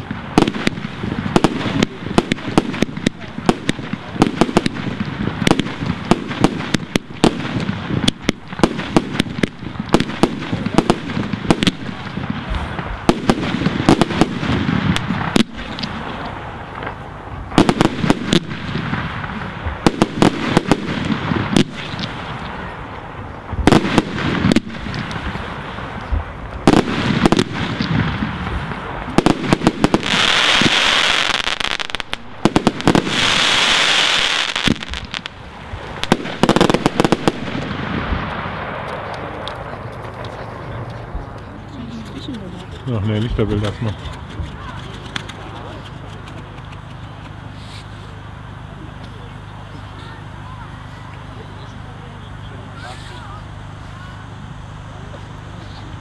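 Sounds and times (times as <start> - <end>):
fireworks bangs: 0.0 - 50.5
fireworks hissing: 0.0 - 56.0.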